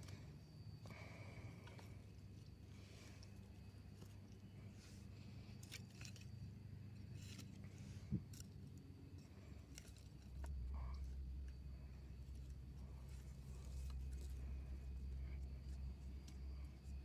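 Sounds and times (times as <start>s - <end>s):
rope and sticks rustling: 0.0s - 17.0s.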